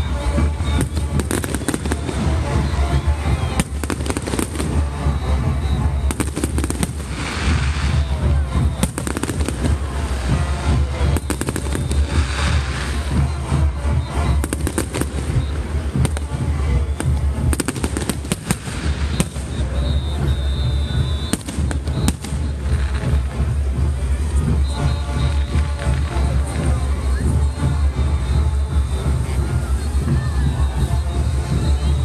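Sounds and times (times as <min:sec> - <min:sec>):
fireworks bangs and crackles: 0:00.0 - 0:32.0
music playing: 0:00.0 - 0:32.0.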